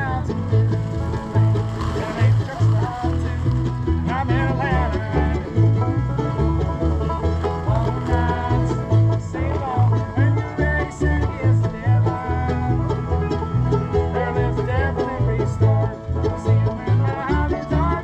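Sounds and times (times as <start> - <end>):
banjo picking: 0.0 - 18.0
bass line: 0.0 - 18.0
strummed guitar: 0.0 - 18.0.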